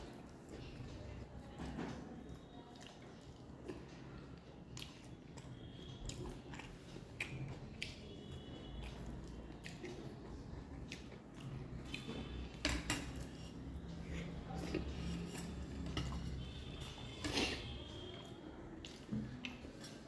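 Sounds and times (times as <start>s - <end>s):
chewing soft food: 0.0s - 20.0s
soft squishing of food by hand: 0.0s - 20.0s.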